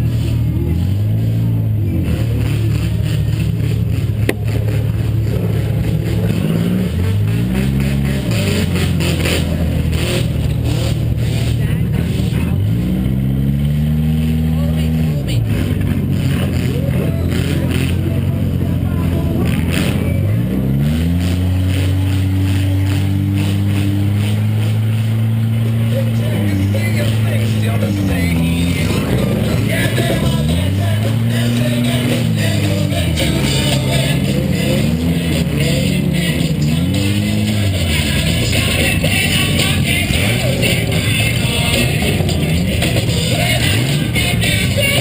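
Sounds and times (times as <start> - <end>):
car engine revving: 0.0 - 45.0.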